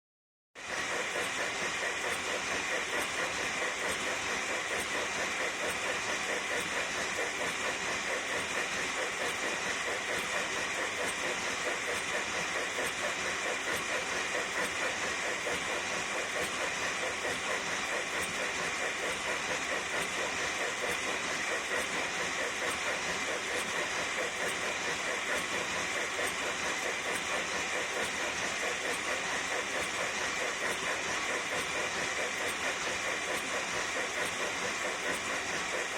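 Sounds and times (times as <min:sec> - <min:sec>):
model steam locomotive hissing: 0:00.6 - 0:35.9.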